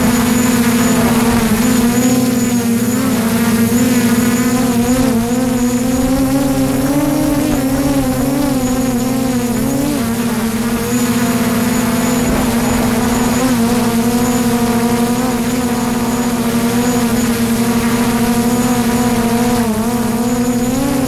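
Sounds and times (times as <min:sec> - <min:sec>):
drone propellers humming: 0:00.0 - 0:21.0.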